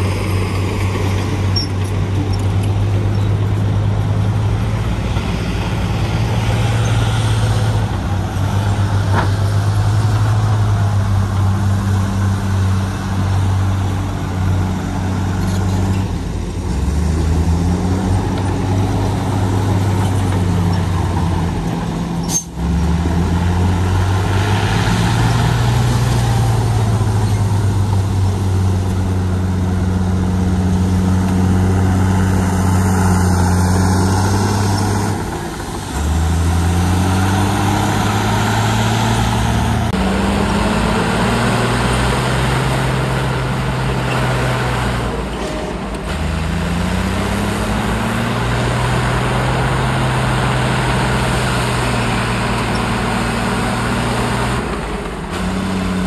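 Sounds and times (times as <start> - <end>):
heavy diesel engines under load: 0.0 - 56.0.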